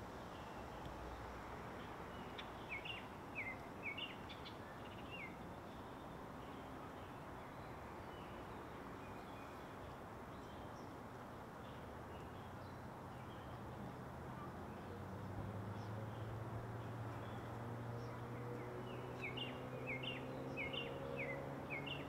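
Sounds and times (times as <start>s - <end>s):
faint background hiss: 0.0s - 22.0s
songbird chirping: 0.3s - 22.0s.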